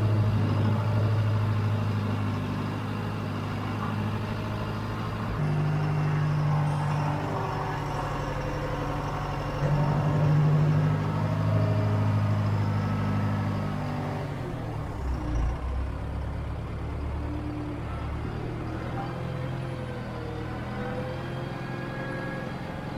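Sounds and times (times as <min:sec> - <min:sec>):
backhoe engine under load: 0:00.0 - 0:22.9.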